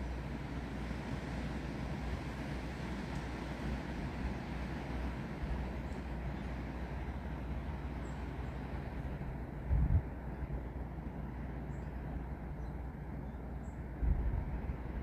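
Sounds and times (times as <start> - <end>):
wind and rain in trees: 0.0 - 15.0.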